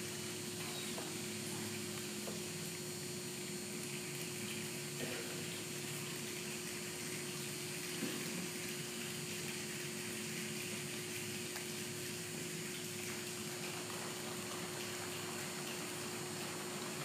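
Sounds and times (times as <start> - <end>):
constant low hum: 0.0 - 17.0
room hiss: 0.0 - 17.0.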